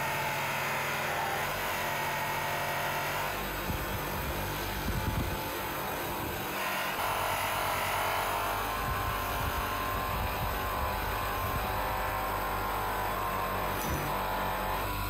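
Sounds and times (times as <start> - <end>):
buffing wheel motor whirring: 0.0 - 15.0.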